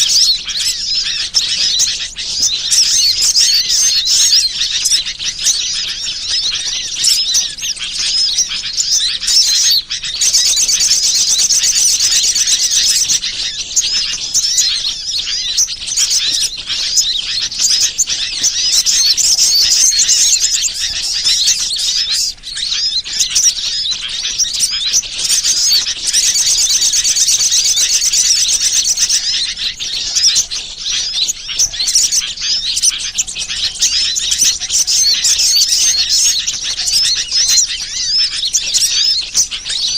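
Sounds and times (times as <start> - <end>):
rapid high bird trill: 0.0 - 39.9
songbirds chirping and twittering: 0.0 - 39.9.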